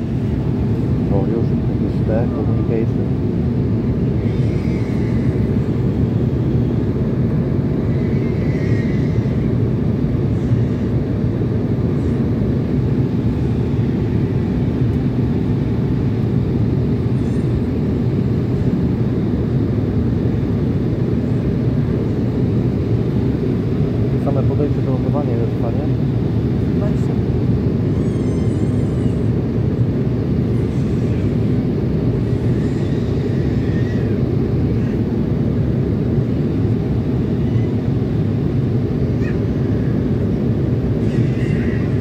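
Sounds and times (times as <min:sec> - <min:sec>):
airliner cabin engine rumble: 0:00.0 - 0:42.0.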